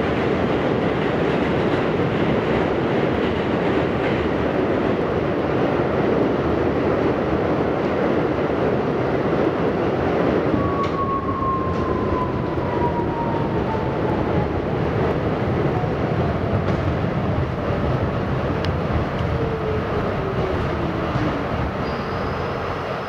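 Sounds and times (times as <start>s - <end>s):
subway wheels rumbling on rail: 0.0s - 23.0s.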